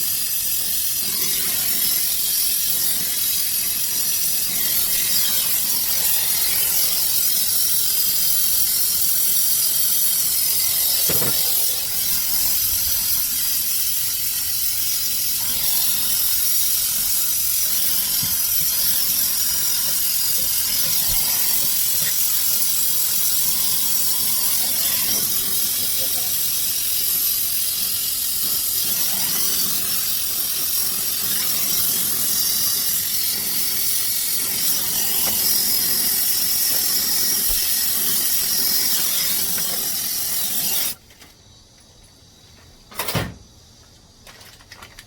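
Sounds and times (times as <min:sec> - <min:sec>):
pressurized gas hissing: 0:00.0 - 0:41.0.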